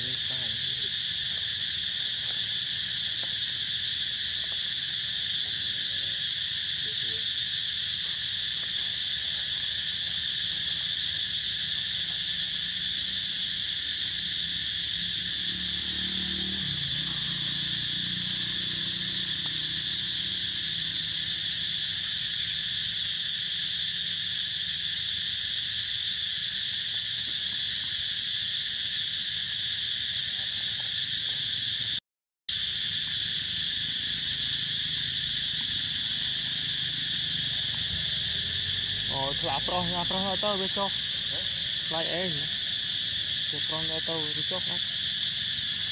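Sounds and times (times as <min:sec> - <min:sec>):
insect chorus drone: 0:00.0 - 0:45.9.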